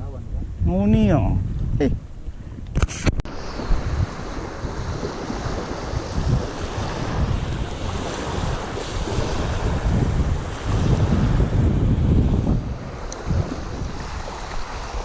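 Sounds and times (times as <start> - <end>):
wind buffeting microphone: 0.0 - 15.0
waves splashing: 2.8 - 15.0.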